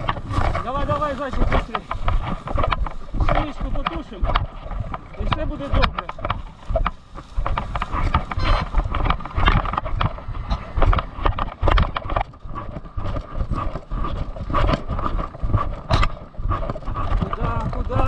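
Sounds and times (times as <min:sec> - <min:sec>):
footsteps through dry wheat: 0:00.0 - 0:16.2
wind on microphone: 0:00.0 - 0:18.0.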